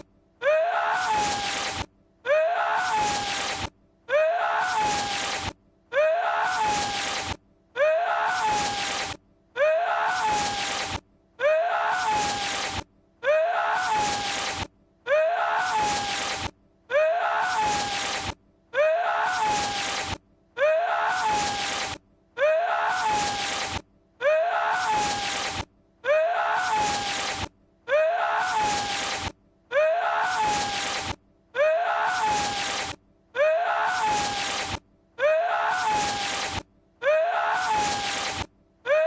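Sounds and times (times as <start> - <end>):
man's strained drawn-out cry: 0.4 - 39.0.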